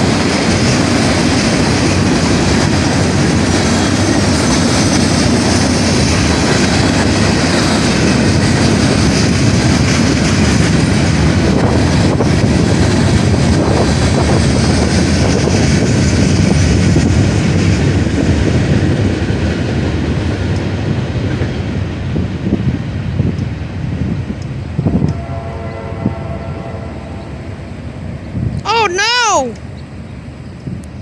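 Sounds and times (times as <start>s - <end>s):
freight train cars rolling past: 0.0s - 28.6s, 29.4s - 31.0s.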